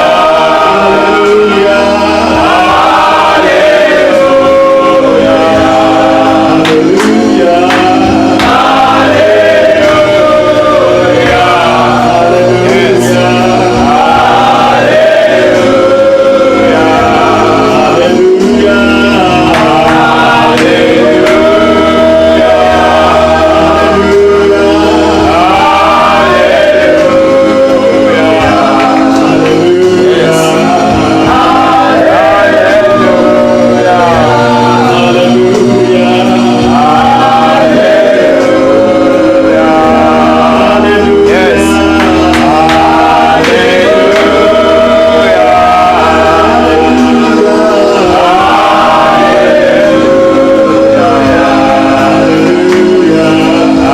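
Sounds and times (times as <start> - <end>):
choir singing gospel: 0.0 - 53.9.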